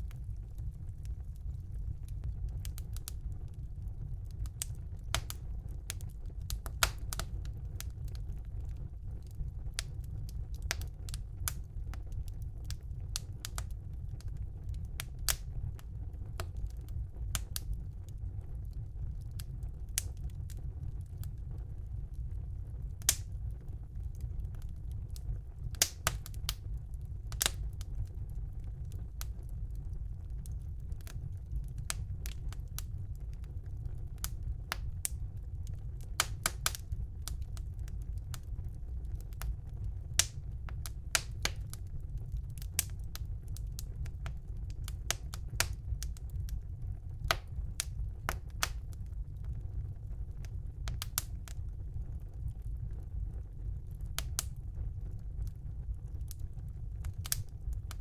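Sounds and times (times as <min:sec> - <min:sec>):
fire rumbling: 0:00.0 - 0:58.0
wood fire crackling and popping: 0:00.0 - 0:58.0.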